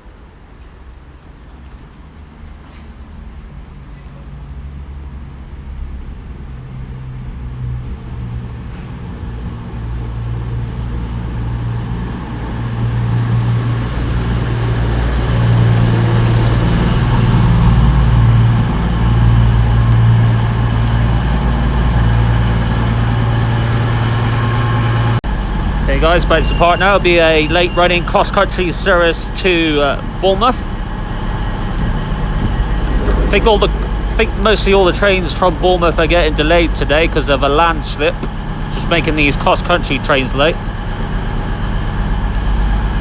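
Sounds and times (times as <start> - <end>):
diesel train engines droning: 0.0 - 43.0.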